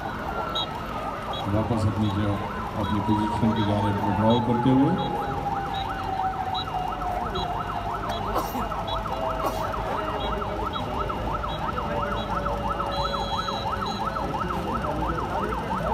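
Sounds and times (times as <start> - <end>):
police siren yelping: 0.0 - 15.9.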